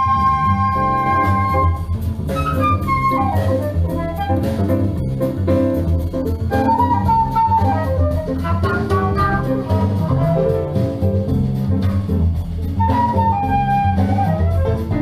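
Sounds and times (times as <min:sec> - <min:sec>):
jazz music over loudspeakers: 0:00.0 - 0:15.0.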